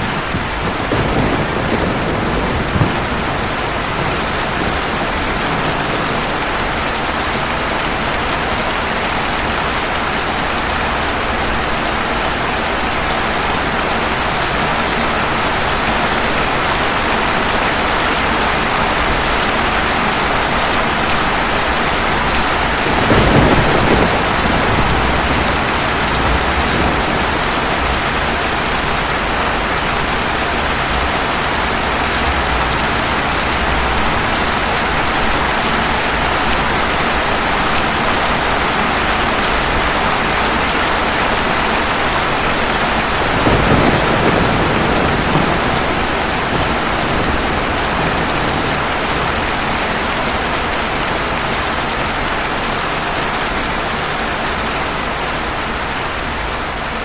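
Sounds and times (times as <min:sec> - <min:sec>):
thunder rumbles: 0:00.0 - 0:09.8, 0:10.7 - 0:51.8
heavy rain on pavement: 0:00.0 - 0:57.0.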